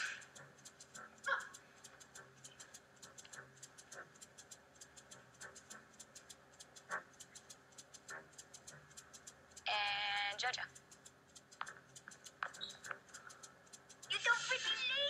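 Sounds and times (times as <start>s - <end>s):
faint rapid ticking: 0.0s - 15.0s.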